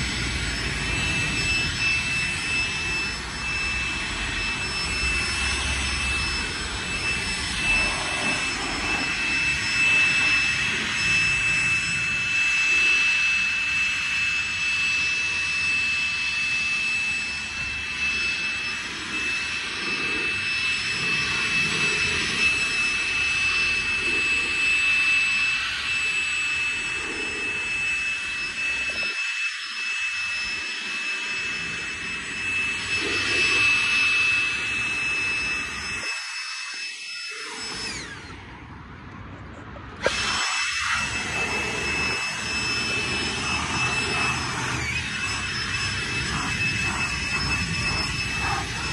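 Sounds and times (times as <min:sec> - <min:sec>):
leaf blower blowing air: 0:00.0 - 0:38.8, 0:39.9 - 0:48.9.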